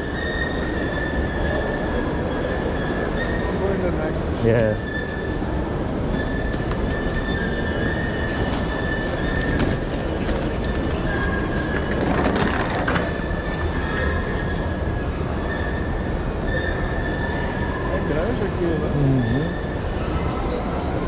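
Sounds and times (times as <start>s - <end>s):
train rumbling: 0.0s - 21.0s
train squealing: 0.0s - 21.0s.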